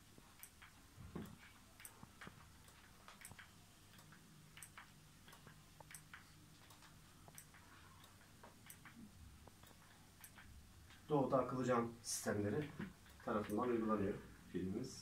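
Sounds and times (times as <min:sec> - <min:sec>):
faint small clicks and ticks: 0:00.2 - 0:11.1, 0:12.6 - 0:13.8.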